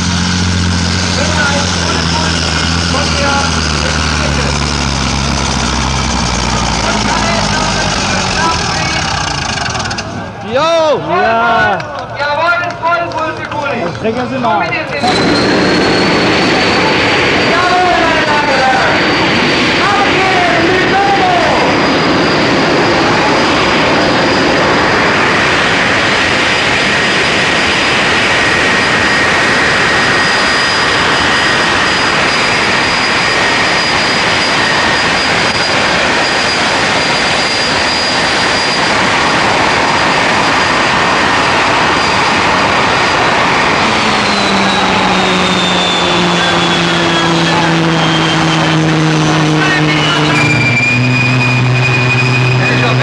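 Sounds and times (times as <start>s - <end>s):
high engine whine: 0.0s - 53.0s
tractor engine roaring: 0.0s - 53.0s.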